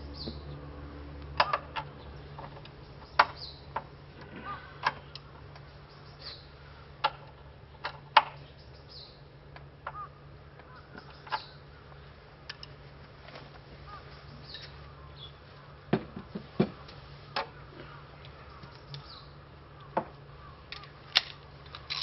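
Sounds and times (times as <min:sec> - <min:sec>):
birds chirping softly: 0:00.0 - 0:22.0.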